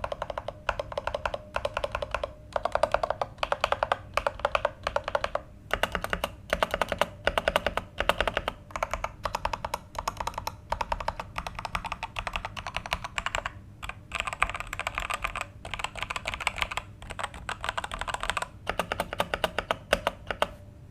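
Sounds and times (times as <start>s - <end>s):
mechanical keyboard typing: 0.0s - 20.6s
faint low hum: 0.0s - 20.9s.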